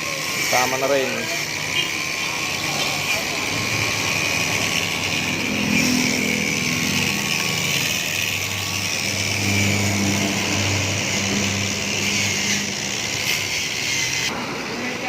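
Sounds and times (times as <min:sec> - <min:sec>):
engine-like mechanical noise: 0:00.0 - 0:15.0.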